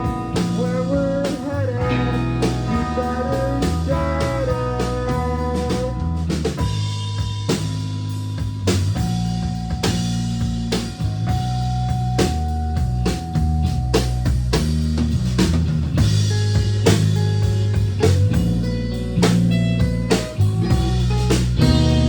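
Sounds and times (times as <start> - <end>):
drum kit beat: 0.0 - 22.0
guitar: 0.0 - 22.0.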